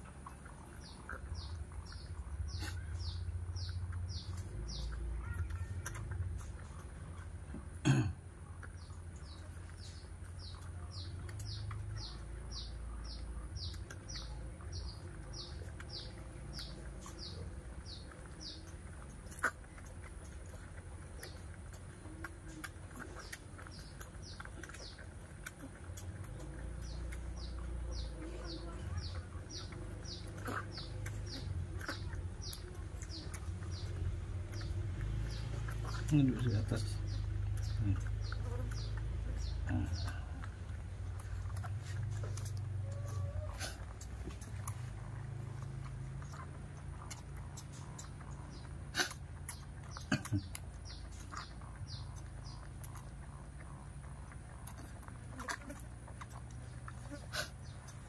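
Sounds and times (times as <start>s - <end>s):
bird chirping: 0.0s - 8.0s, 8.6s - 58.0s
steady low hum: 0.0s - 58.0s.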